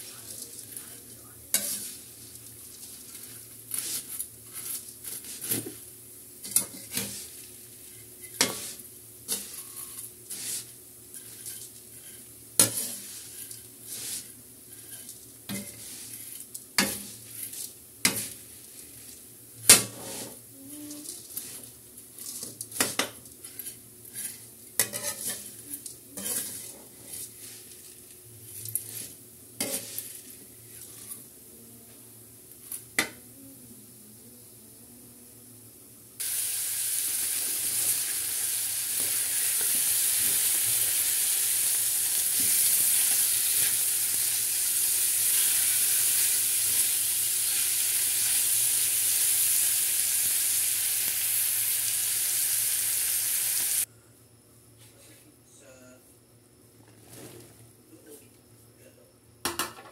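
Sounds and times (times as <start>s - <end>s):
frying sizzle: 0.0s - 31.3s, 36.2s - 53.9s.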